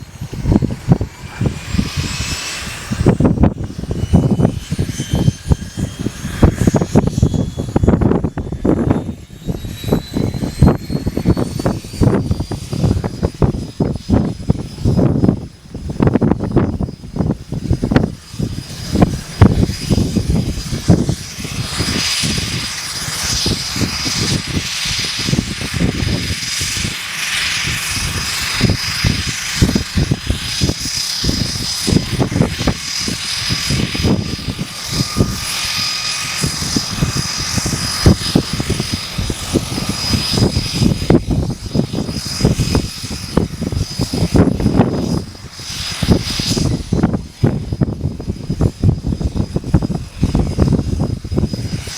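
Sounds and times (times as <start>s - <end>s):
turboprop engines whining: 0.0s - 51.9s.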